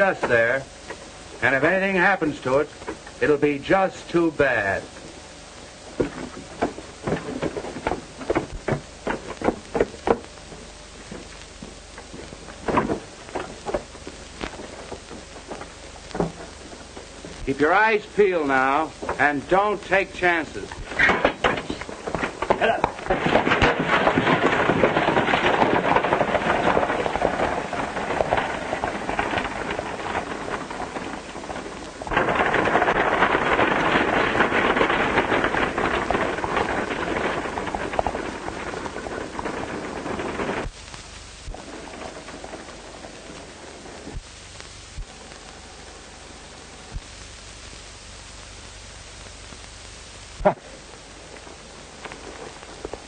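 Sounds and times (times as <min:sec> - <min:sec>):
horse hooves clopping: 0:00.0 - 0:44.2
old film soundtrack hiss and hum: 0:00.0 - 0:53.0.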